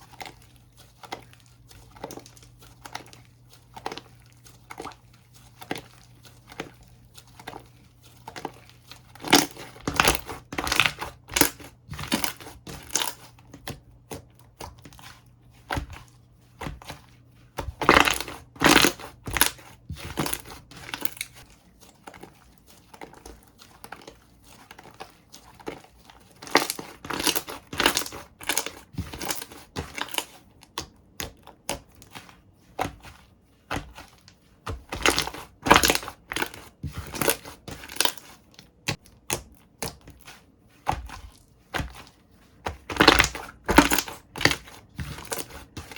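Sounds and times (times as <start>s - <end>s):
slime squished by hand: 0.0s - 45.9s.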